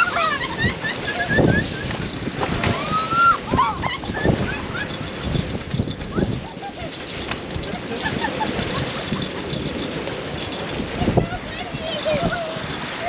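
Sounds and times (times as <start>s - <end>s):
sea splashing against boat hull: 0.0s - 13.0s
strong gusting wind: 0.0s - 13.0s.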